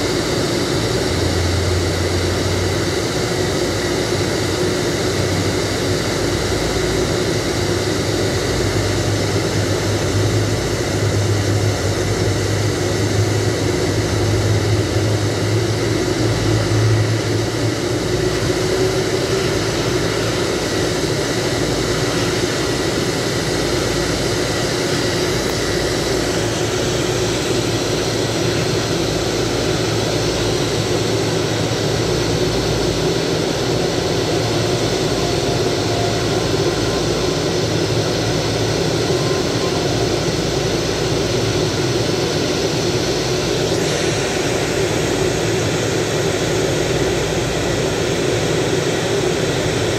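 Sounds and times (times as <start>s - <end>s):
jet airliner engine running: 0.0s - 49.9s.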